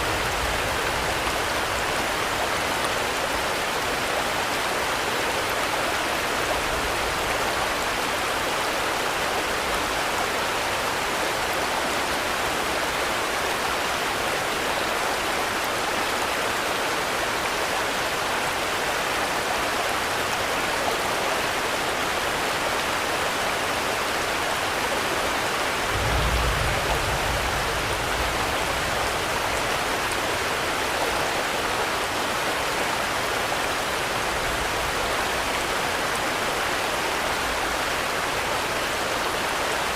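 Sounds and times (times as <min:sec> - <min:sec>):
dense rainfall hissing: 0:00.0 - 0:39.9.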